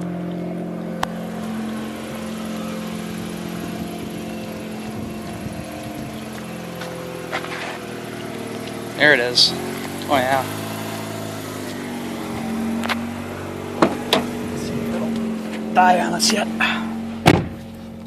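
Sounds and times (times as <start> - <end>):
rotary engine idling: 0.0 - 18.0.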